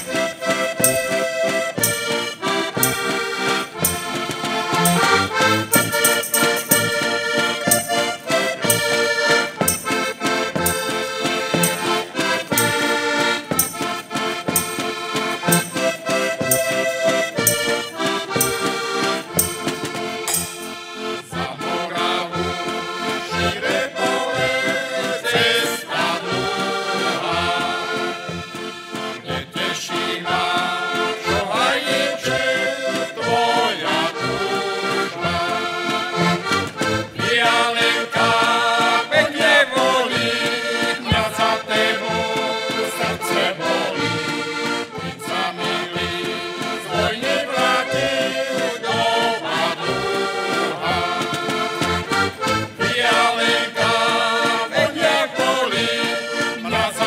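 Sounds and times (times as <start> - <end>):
button accordions playing folk tune: 0.0 - 57.0.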